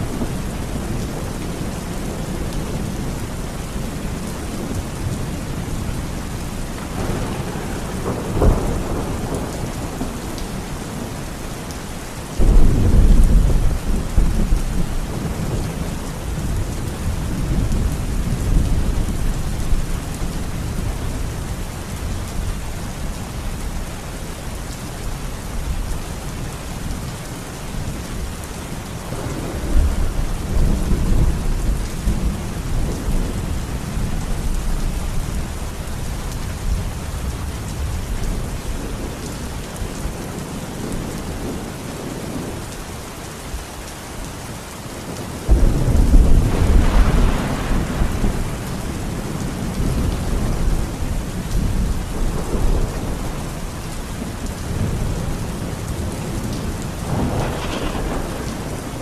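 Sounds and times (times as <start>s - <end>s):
low rolling thunder: 0.0s - 11.4s, 12.3s - 22.7s, 29.0s - 42.6s, 45.1s - 59.0s
rain falling: 0.0s - 59.0s.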